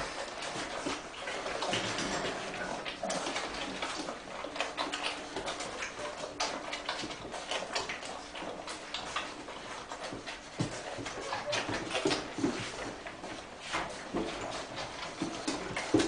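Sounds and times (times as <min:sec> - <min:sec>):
puppy claws clicking on hard floor: 0:00.0 - 0:16.0.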